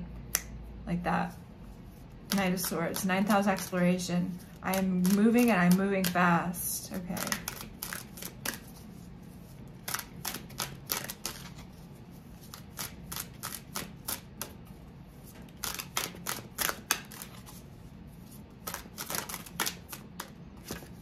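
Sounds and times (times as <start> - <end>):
cards being shuffled: 2.2 - 6.2, 7.1 - 21.0.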